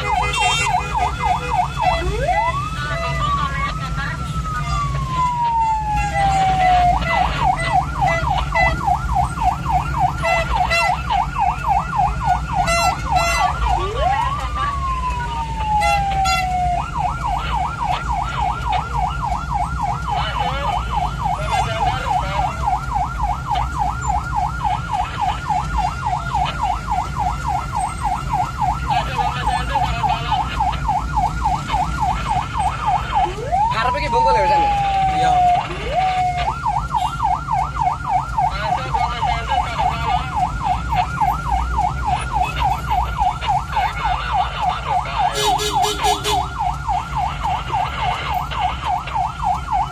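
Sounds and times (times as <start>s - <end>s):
ambulance siren yelping: 0.0s - 49.9s
vehicle engine and road rumble: 0.0s - 49.9s.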